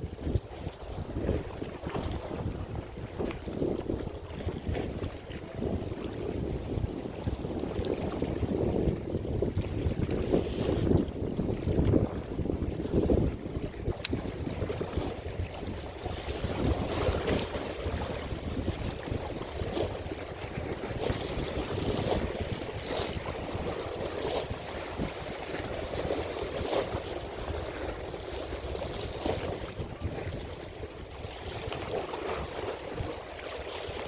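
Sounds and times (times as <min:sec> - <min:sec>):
water lapping: 0:00.0 - 0:34.0
wind buffeting microphone: 0:00.0 - 0:34.0.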